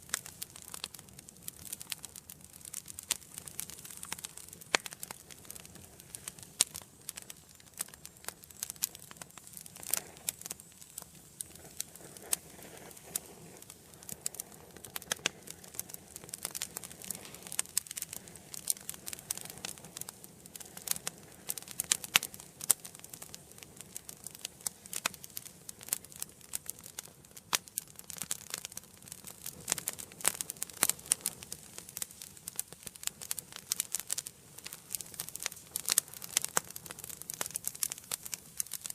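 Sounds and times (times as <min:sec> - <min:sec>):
soft hiss of flames: 0:00.0 - 0:38.9
wood fire crackling and popping: 0:00.0 - 0:38.9.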